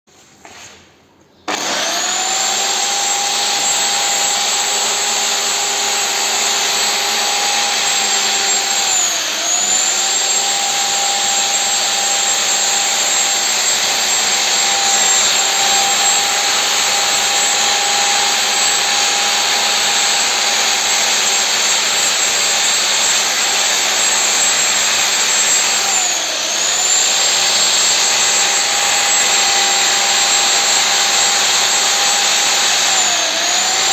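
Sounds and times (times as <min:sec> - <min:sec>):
electric power tool motor whining: 0:01.5 - 0:33.9.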